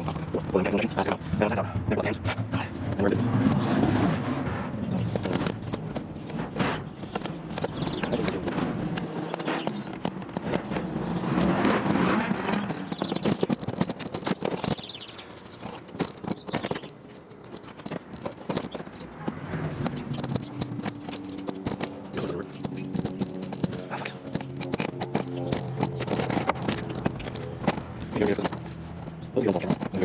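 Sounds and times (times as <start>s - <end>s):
hand tools and metal parts clicking: 4.8s - 30.0s.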